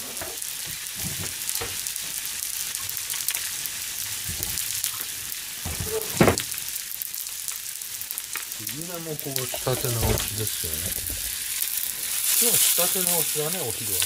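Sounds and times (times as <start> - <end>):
fish sizzling in a frying pan: 0.0 - 14.0.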